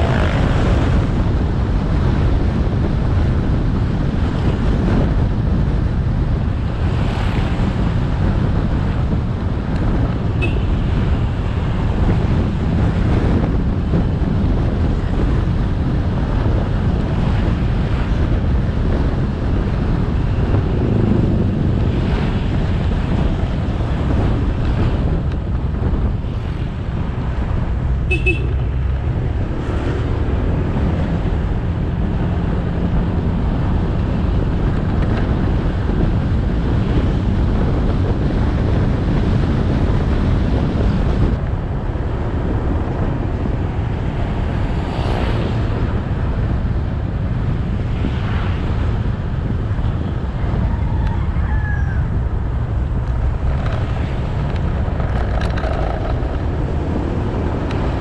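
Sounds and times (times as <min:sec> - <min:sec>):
road noise: 0:00.0 - 0:58.0
wind on microphone: 0:00.0 - 0:58.0.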